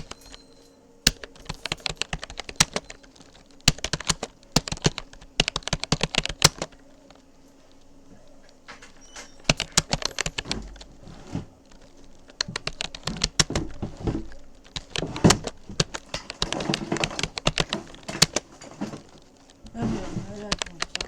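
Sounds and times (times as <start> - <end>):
keyboard typing: 0.0 - 21.0.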